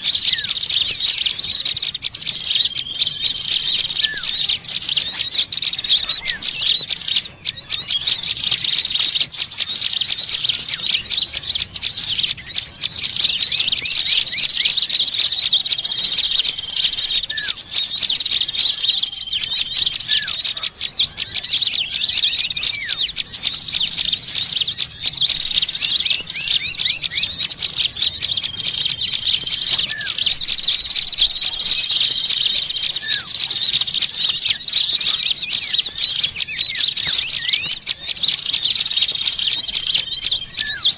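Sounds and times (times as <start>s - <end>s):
songbirds chirping in chorus: 0.0s - 40.9s.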